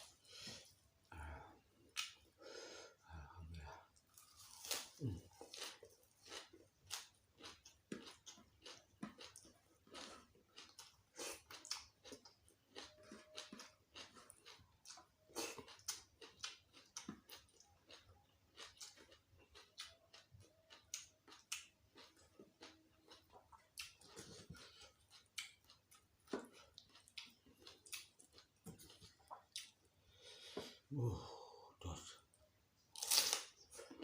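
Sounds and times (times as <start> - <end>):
person chewing food: 0.0 - 31.1, 32.4 - 34.0.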